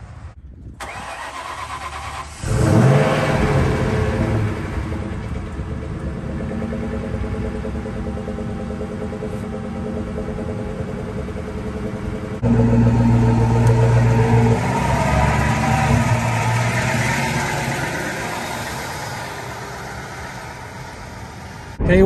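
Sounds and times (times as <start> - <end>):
car engine idling through exhaust: 2.5 - 22.0.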